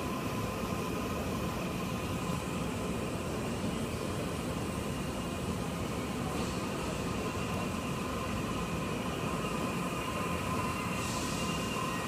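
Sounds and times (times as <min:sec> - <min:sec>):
faint high whine: 0:00.0 - 0:12.0
trains rumbling over tracks: 0:00.0 - 0:12.0.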